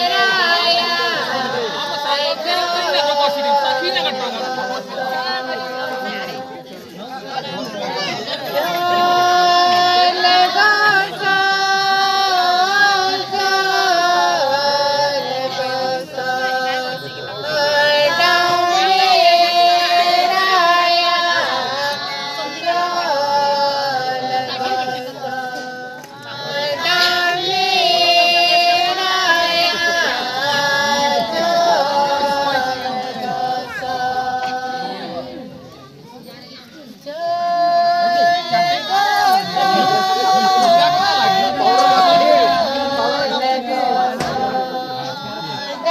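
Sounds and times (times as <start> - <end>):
women singing slow melody: 0.0 - 35.8, 36.9 - 45.9.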